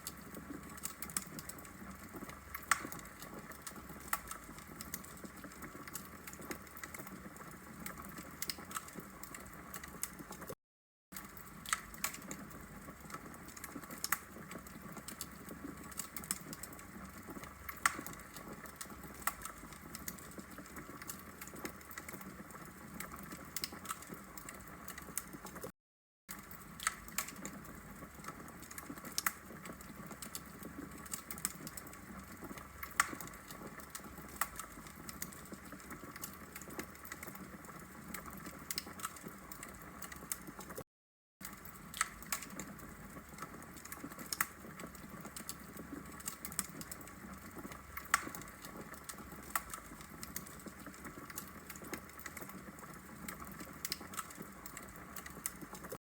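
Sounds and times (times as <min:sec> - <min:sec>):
logs crackling and popping: 0:00.0 - 0:10.6, 0:11.2 - 0:25.7, 0:26.3 - 0:40.8, 0:41.4 - 0:56.0.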